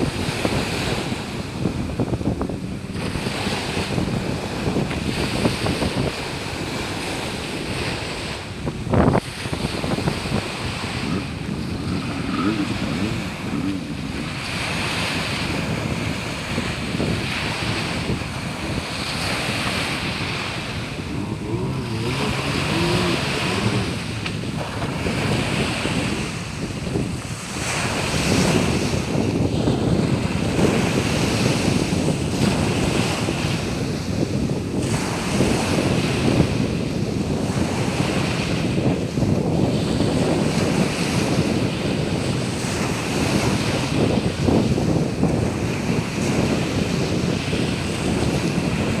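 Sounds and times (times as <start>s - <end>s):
waves washing onto beach: 0.0s - 49.0s
wind buffeting microphone: 0.0s - 49.0s.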